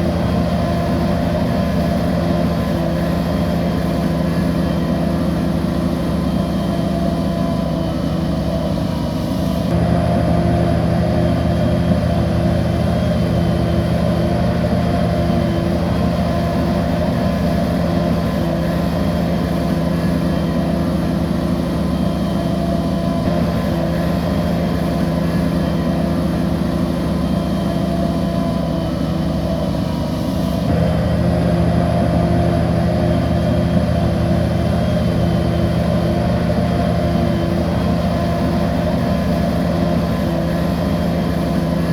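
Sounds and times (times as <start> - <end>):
diesel bulldozer engine running: 0.0 - 41.9.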